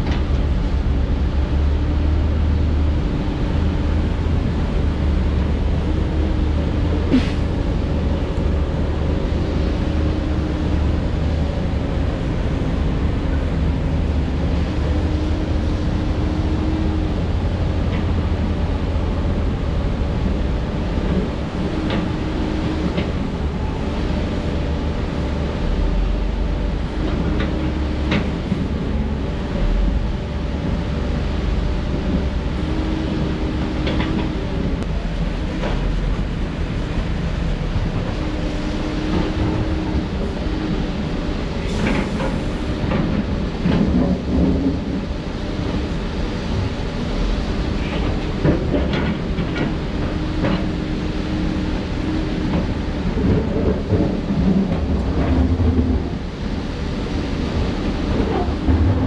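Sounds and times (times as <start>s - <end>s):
diesel engines rumbling: 0.0s - 59.0s.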